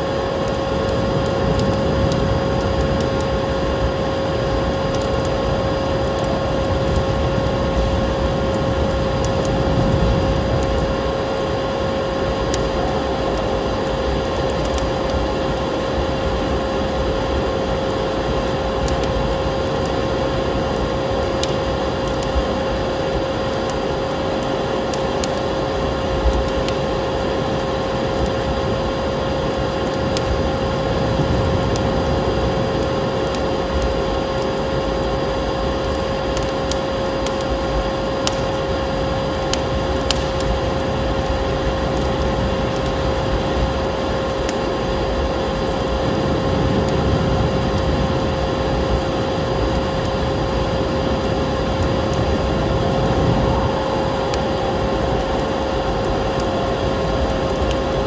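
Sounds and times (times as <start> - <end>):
vacuum cleaner motor droning: 0.0 - 58.0
wood fire crackling: 0.0 - 58.0.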